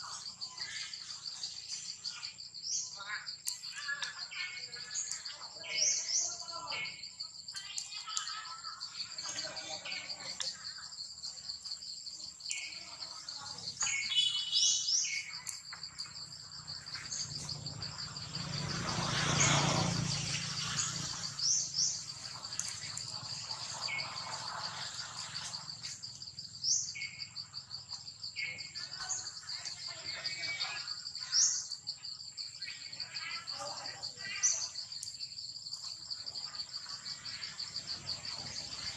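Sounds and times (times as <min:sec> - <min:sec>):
bird chirps: 0:00.0 - 0:38.9
insects trilling: 0:00.0 - 0:38.9.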